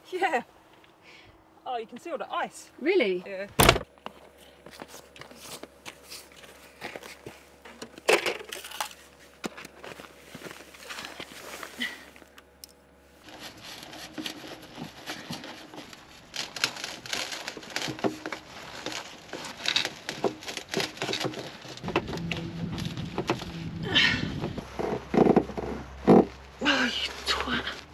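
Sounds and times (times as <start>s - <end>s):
plastic hose crinkling: 4.7s - 27.9s.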